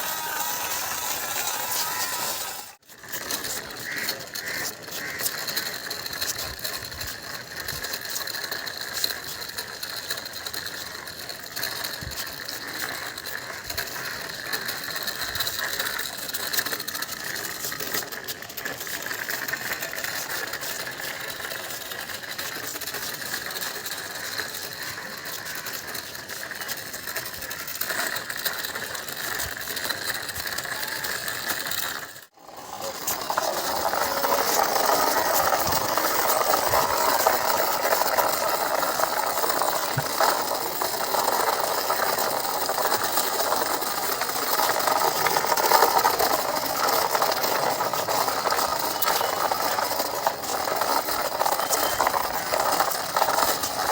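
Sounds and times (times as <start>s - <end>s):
toy gear mechanism clicking whirr: 0.0s - 53.9s.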